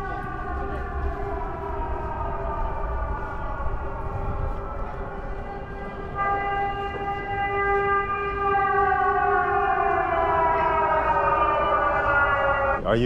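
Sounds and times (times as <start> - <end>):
higher siren tone falling: 0.0 - 12.8
air raid siren wailing: 0.0 - 13.0.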